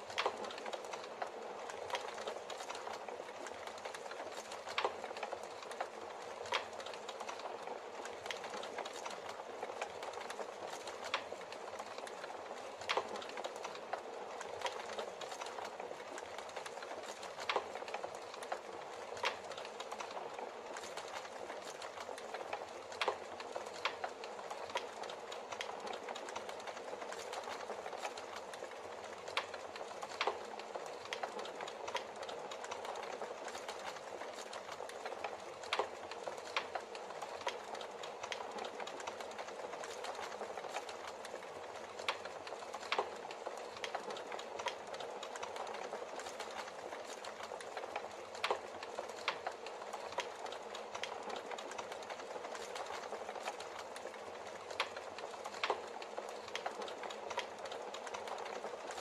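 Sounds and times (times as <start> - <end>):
sharp clicks and crackles: 0.0 - 59.0.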